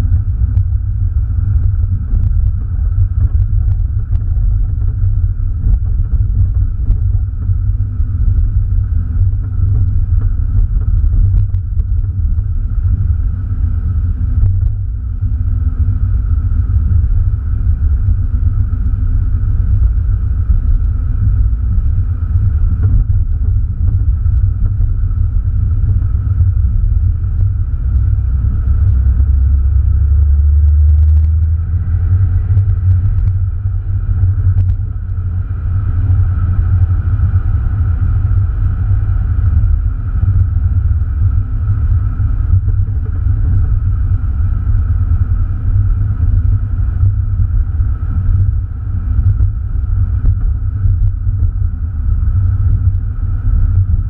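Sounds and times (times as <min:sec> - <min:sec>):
road noise: 0:00.0 - 0:52.5
car engine rumble inside cabin: 0:00.0 - 0:54.0.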